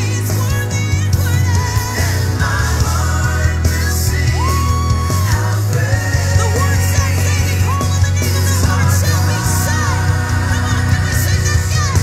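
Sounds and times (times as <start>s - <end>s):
worship song with beat and bass: 0.0s - 12.0s.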